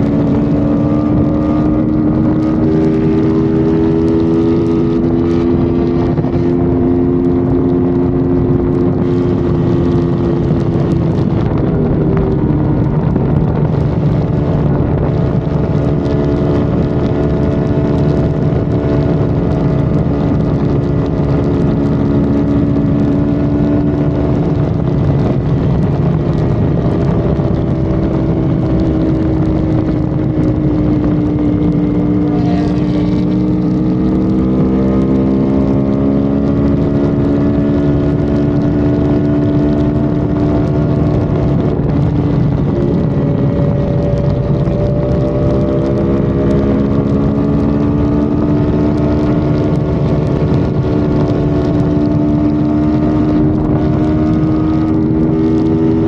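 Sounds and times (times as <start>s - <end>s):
car engine at highway speed: 0.0s - 56.0s
road noise: 0.0s - 56.0s.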